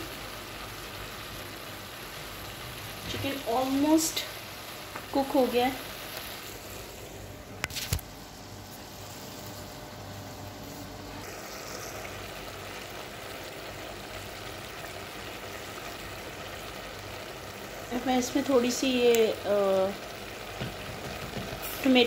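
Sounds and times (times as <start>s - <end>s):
chicken and mushrooms sizzling in pot: 0.0s - 22.0s.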